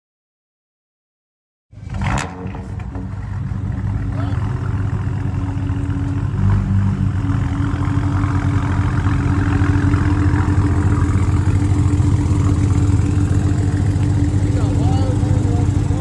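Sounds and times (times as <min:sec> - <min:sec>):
car engine idling: 0:02.4 - 0:16.0.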